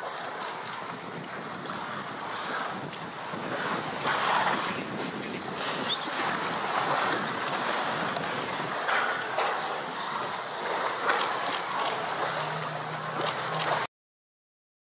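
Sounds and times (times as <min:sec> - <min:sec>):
waves washing: 0:00.0 - 0:13.9
wind: 0:00.0 - 0:13.9
walruses splashing in water: 0:00.1 - 0:13.9.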